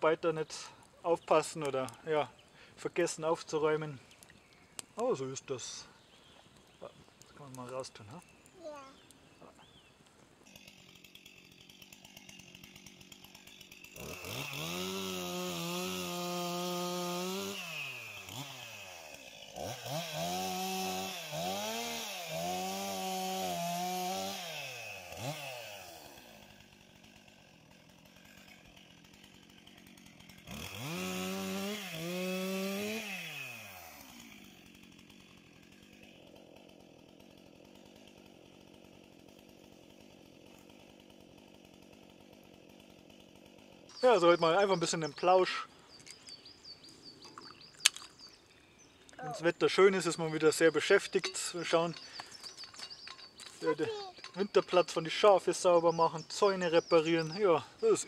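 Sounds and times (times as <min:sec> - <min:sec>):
chainsaw revving and idling: 0:10.4 - 0:58.0.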